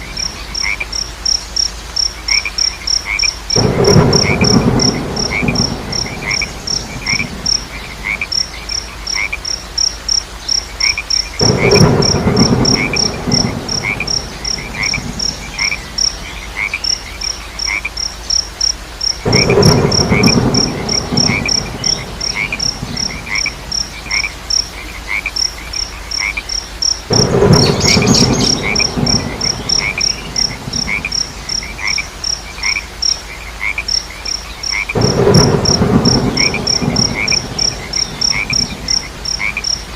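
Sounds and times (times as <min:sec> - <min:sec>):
frogs croaking: 0:00.0 - 0:39.9
high pulsing insect trill: 0:00.0 - 0:39.9
low repeated insect chirp: 0:00.0 - 0:39.9.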